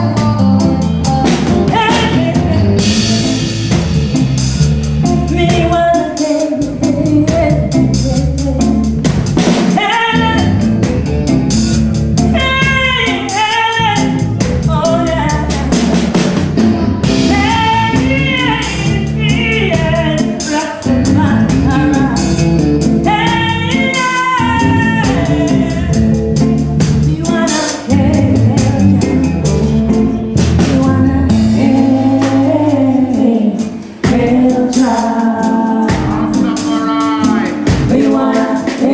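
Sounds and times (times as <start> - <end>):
woman singing: 0.0 - 3.6, 5.0 - 10.7, 12.3 - 16.1, 17.0 - 38.9
live ragga band with drum kit: 0.0 - 38.9.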